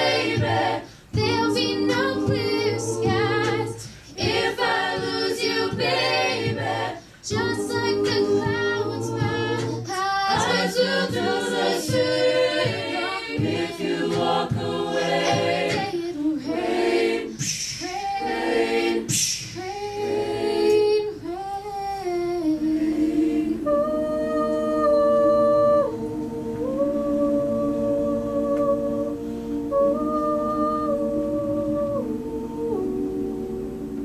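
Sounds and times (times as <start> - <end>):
a cappella group singing harmony: 0.0 - 34.0
percussive vocal beats: 0.0 - 34.0.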